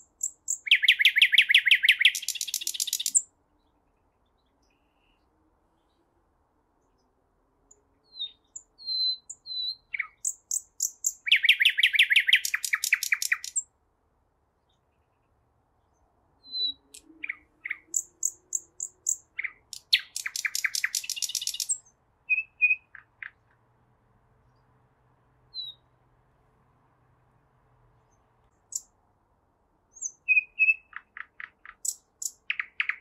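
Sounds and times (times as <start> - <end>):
nightingale singing: 0.0 - 6.2, 6.8 - 13.7, 14.7 - 23.6, 25.5 - 26.0, 28.0 - 29.0, 29.9 - 33.0.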